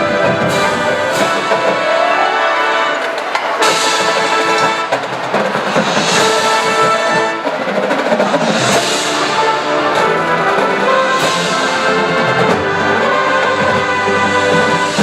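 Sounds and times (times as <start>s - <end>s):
brass and drums music: 0.0s - 15.0s.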